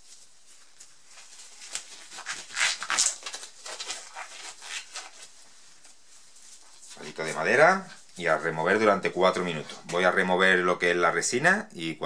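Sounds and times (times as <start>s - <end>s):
rubber gloves rustling and snapping: 0.0s - 10.1s.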